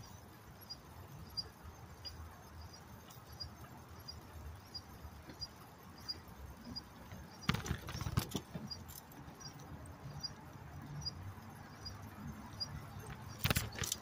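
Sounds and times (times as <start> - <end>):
bicycle rolling on street: 0.0 - 14.0.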